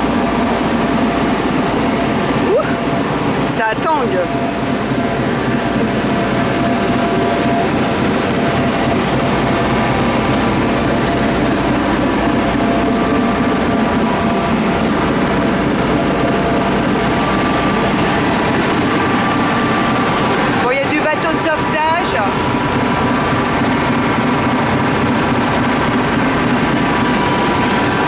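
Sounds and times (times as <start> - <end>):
ferry engine drone: 0.0 - 28.0.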